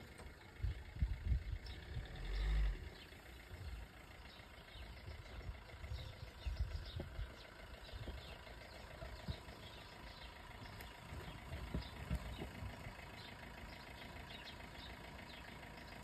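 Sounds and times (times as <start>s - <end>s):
birds chirping faintly: 0.0s - 16.0s
car engine idling: 0.0s - 16.0s
car rolling over paver stones: 2.2s - 16.0s.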